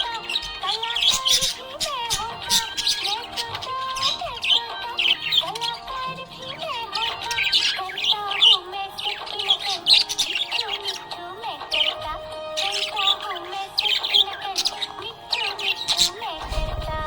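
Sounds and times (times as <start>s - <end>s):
budgerigars chirping: 0.0s - 17.0s
music playing: 0.0s - 17.0s.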